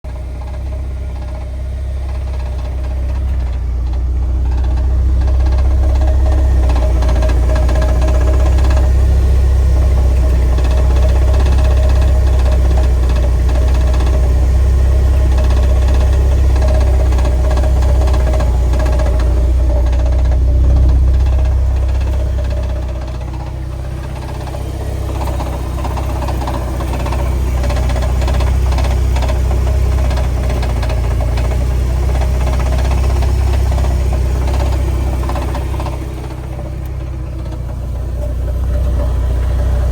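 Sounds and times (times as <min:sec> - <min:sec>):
car engine droning: 0:00.0 - 0:39.9
rapid clattering rattle: 0:00.2 - 0:39.9.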